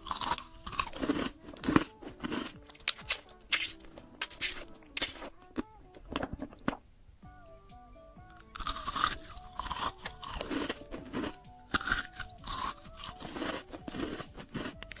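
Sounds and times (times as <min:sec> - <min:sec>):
food crunching when chewed: 0:00.0 - 0:06.8, 0:08.5 - 0:15.0
faint background music: 0:00.0 - 0:15.0.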